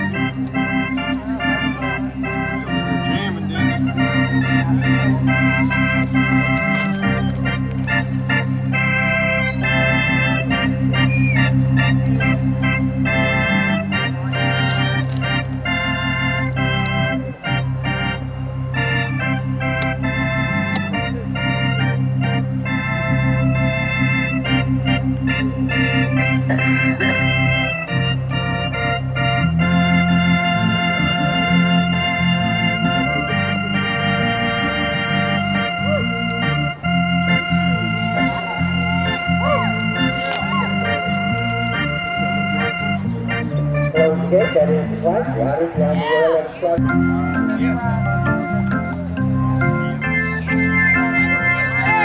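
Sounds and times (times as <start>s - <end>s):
music with steady beat: 0.0s - 45.5s, 46.8s - 52.0s.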